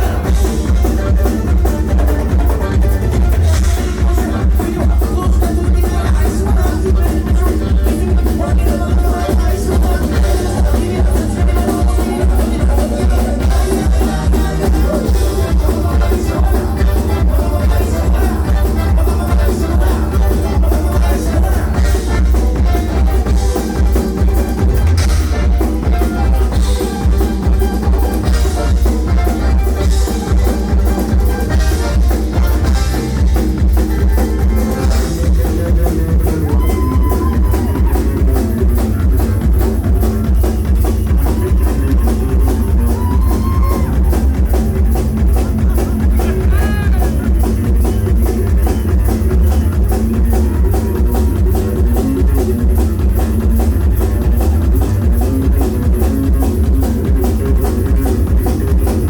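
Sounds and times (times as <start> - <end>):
drum kit: 0.0 - 59.0
live bluegrass band playing: 0.0 - 59.0.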